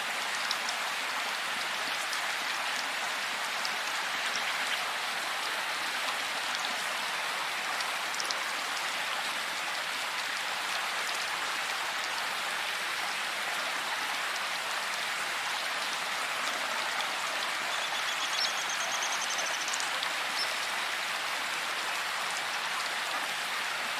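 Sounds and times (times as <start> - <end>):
rain falling in a forest: 0.0 - 23.9.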